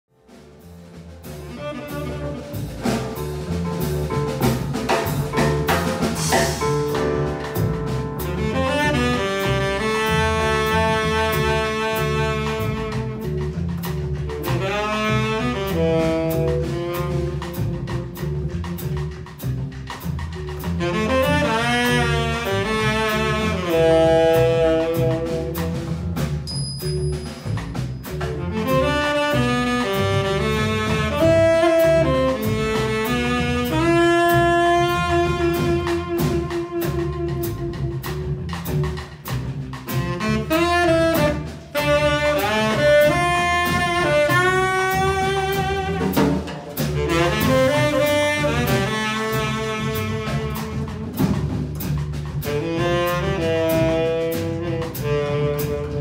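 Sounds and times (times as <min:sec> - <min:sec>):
piano: 0:00.1 - 0:56.0
walking double bass: 0:00.1 - 0:56.0
drum and cymbal hits: 0:00.2 - 0:56.0
jazz quartet playing: 0:00.2 - 0:56.0
saxophone melody: 0:00.9 - 0:18.6, 0:20.5 - 0:56.0.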